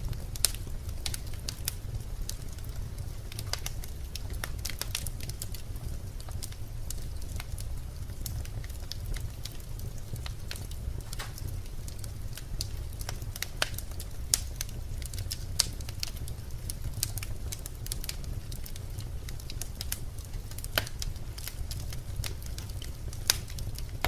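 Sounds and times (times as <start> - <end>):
logs crackling in a fireplace: 0.0 - 24.0.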